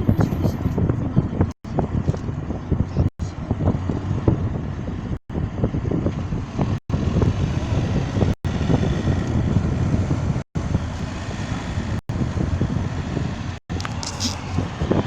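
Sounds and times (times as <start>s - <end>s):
car road noise: 0.0s - 15.0s
wind buffeting microphone: 0.0s - 15.0s.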